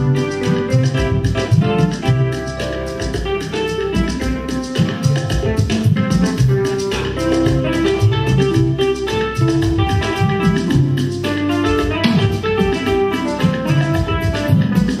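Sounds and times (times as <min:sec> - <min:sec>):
bass guitar: 0:00.0 - 0:15.0
drum beat: 0:00.0 - 0:15.0.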